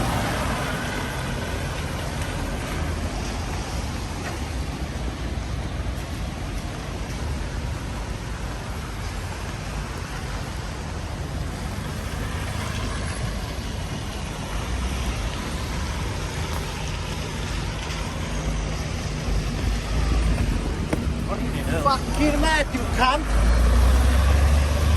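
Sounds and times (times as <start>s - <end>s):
road traffic rumble: 0.0s - 24.9s
vehicles passing: 0.0s - 24.9s.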